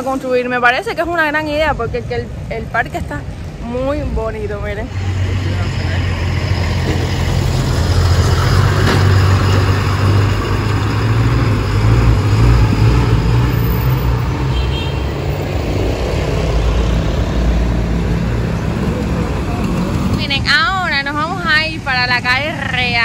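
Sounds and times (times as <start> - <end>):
heavy truck passing: 0.0 - 23.0
vehicle engines droning: 0.0 - 23.0.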